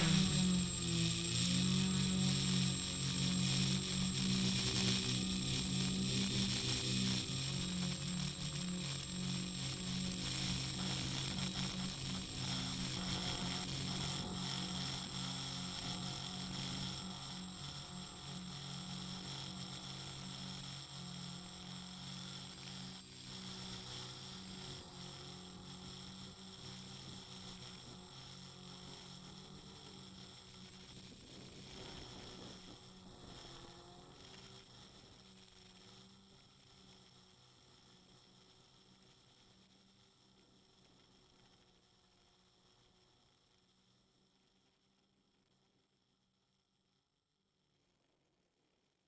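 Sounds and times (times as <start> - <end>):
drone motors humming with whine: 0.0 - 46.1.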